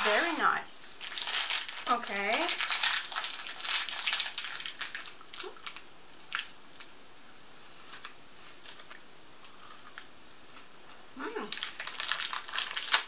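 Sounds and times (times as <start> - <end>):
plastic wrapper crinkling: 0.0 - 7.0, 7.7 - 10.1, 11.5 - 13.0.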